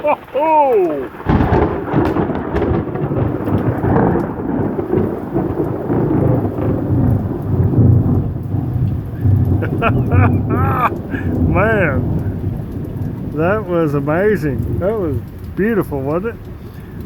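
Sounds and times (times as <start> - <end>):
rain falling: 0.0 - 17.0
rolling thunder rumble: 0.0 - 17.0
thunderclap: 0.0 - 17.0.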